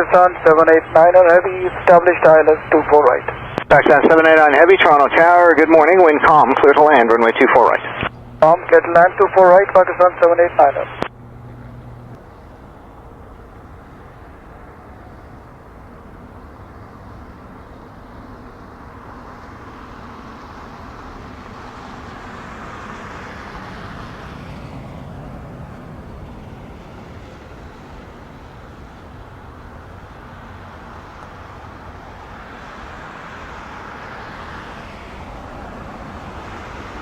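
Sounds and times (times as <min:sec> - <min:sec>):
jet engines rushing: 0:00.0 - 0:37.0.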